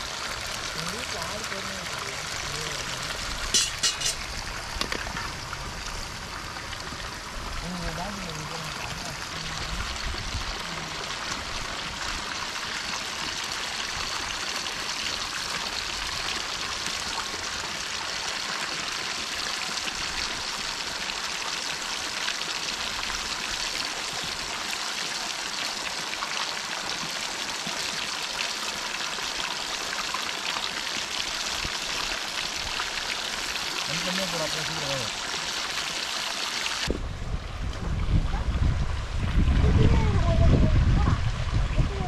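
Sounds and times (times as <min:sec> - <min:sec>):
hot oil sizzling and crackling: 0:00.0 - 0:36.9.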